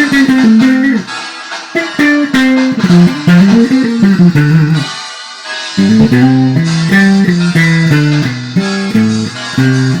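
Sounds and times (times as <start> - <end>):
electric bass riff: 0.0 - 5.0, 5.7 - 10.0
guitar or keyboard chords: 0.0 - 10.0.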